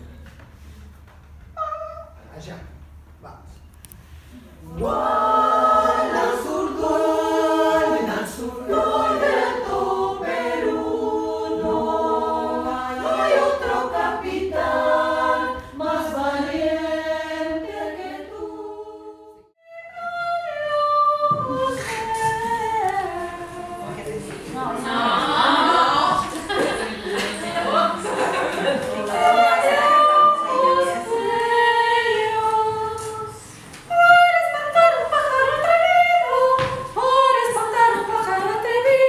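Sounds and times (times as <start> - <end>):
women's choir singing a cappella: 4.6 - 39.0.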